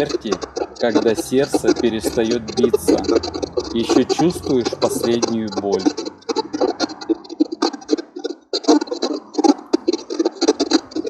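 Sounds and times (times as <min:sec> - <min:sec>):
irregular crackling and scratching: 0:00.0 - 0:11.0.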